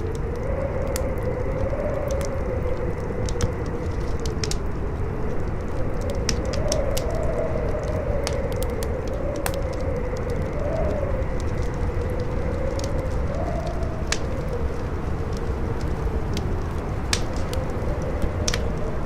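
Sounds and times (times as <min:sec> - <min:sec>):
fire crackling: 0:00.0 - 0:19.0
howling wind: 0:00.0 - 0:19.0.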